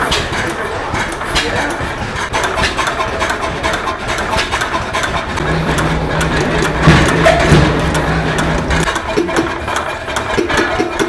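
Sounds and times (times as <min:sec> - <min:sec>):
flywheel engine clattering: 0:00.0 - 0:11.0.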